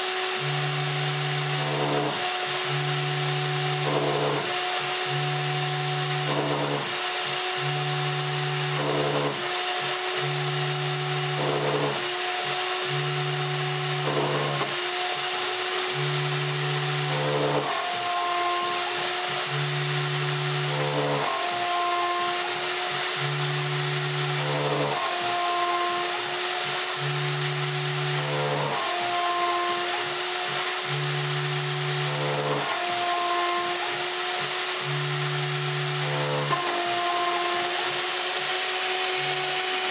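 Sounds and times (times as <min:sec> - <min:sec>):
cnc router milling whine: 0:00.0 - 0:39.9.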